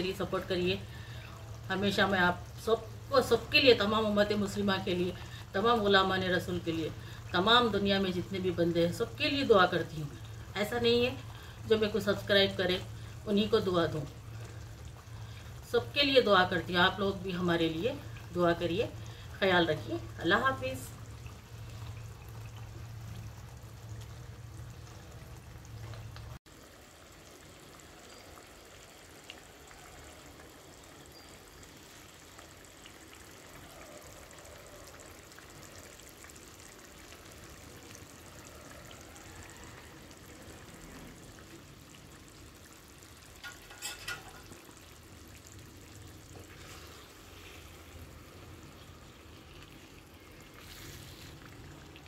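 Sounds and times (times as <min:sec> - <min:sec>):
gravy sizzling and bubbling: 0:00.0 - 0:52.0.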